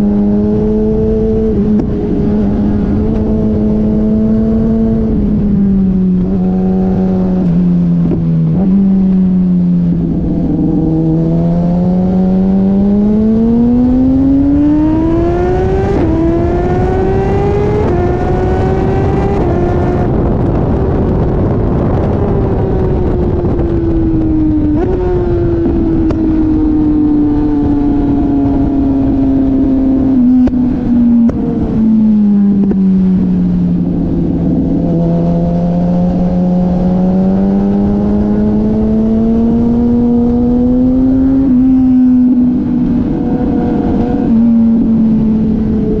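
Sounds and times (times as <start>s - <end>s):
motorcycle engine accelerating: 0.0s - 46.0s
wind rushing: 0.0s - 46.0s.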